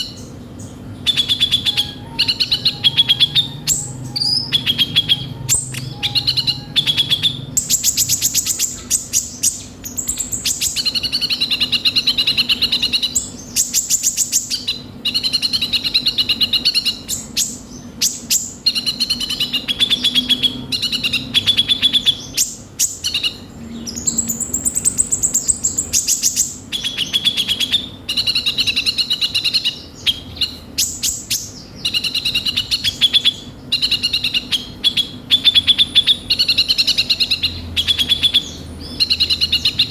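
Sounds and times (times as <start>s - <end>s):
sunbird singing: 0.0s - 39.9s.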